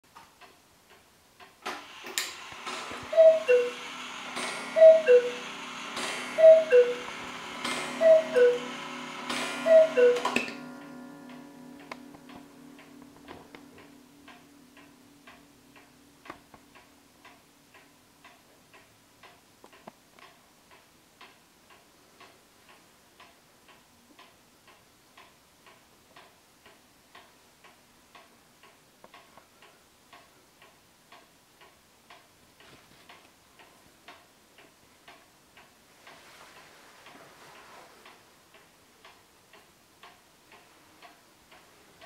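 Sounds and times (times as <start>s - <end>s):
clock ticking: 0.1s - 1.6s, 3.1s - 3.8s, 4.4s - 5.4s, 6.0s - 8.7s, 9.4s - 37.2s, 38.0s - 42.0s.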